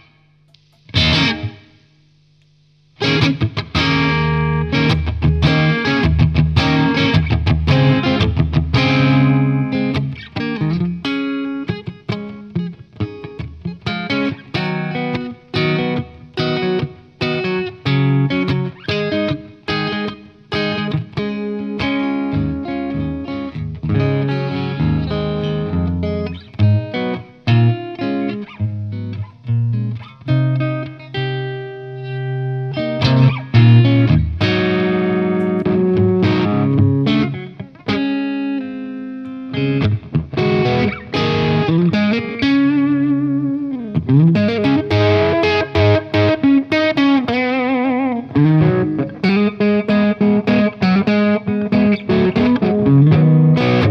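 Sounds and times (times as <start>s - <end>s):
overdriven electric guitar: 0.0s - 53.9s.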